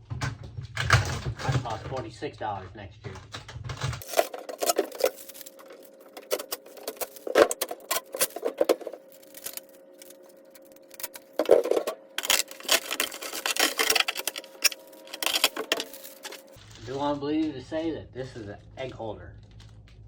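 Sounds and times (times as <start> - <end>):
faint steady hum: 0.8 - 20.0
packaging rustling: 3.2 - 17.8, 18.6 - 20.0.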